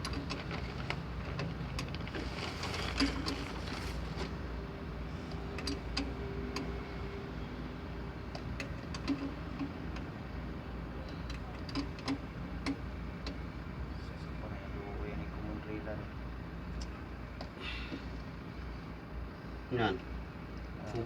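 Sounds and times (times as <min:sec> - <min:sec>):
low mechanical rumble: 0:00.0 - 0:21.0.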